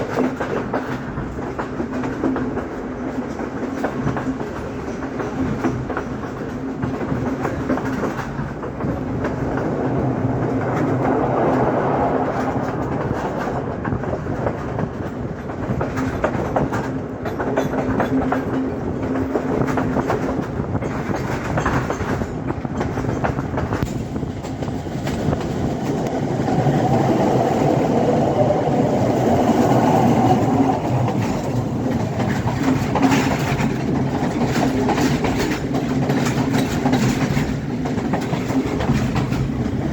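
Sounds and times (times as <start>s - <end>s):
train running hum: 0.0s - 39.9s
train wheels clattering: 0.0s - 39.9s.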